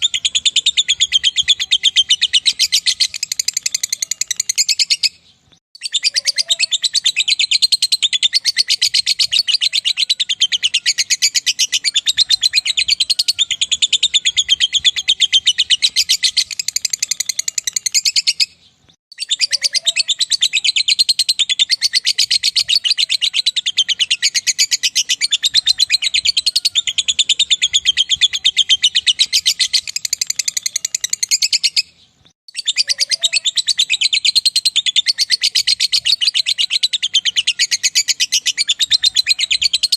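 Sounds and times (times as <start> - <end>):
lovebird chattering: 0.0 - 5.2, 5.8 - 18.5, 19.2 - 31.9, 32.5 - 39.9.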